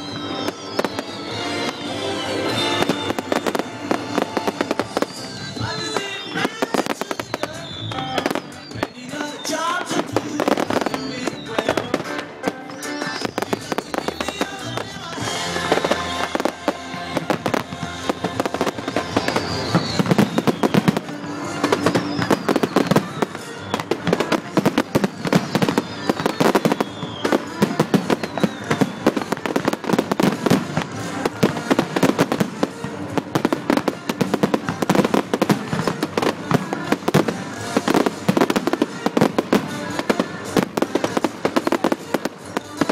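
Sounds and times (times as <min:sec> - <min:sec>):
fireworks bangs and crackles: 0:00.0 - 0:42.9
loud music with singing: 0:00.0 - 0:42.9.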